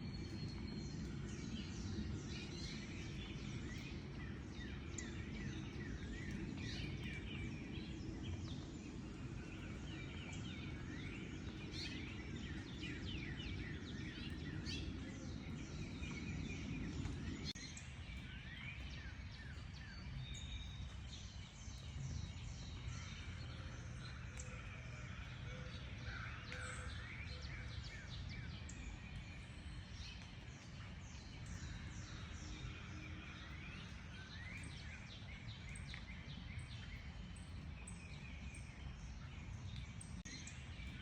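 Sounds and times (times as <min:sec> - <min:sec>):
birds singing and chirping: 0:00.0 - 0:41.0.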